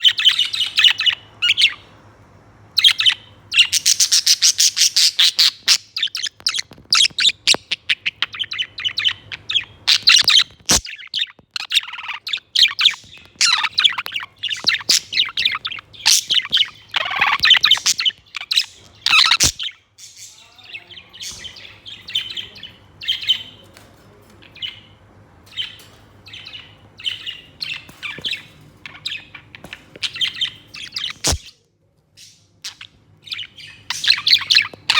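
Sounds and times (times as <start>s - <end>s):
budgerigar chirping and chattering: 0.0s - 1.9s, 2.8s - 23.6s, 24.5s - 31.6s, 32.2s - 34.9s.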